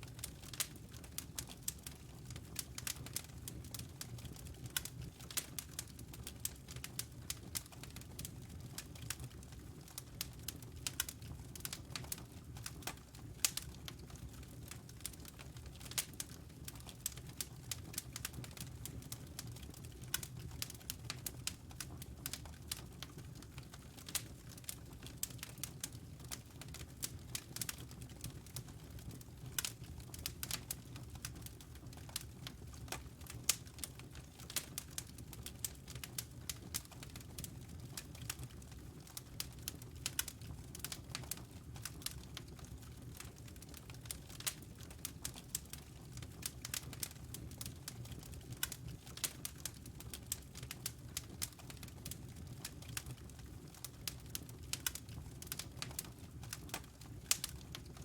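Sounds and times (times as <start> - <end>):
logs crackling and popping: 0.0 - 58.0.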